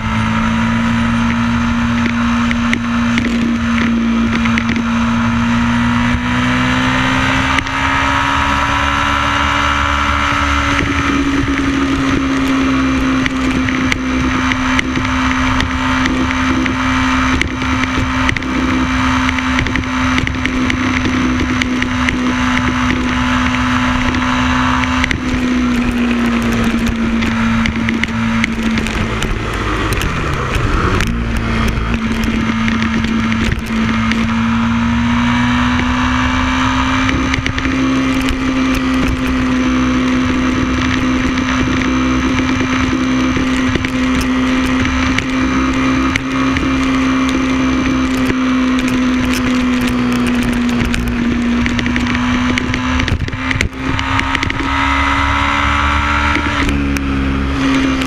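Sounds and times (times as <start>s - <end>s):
motorcycle engine running: 0.0s - 58.0s
wind rushing past microphone: 0.0s - 58.0s.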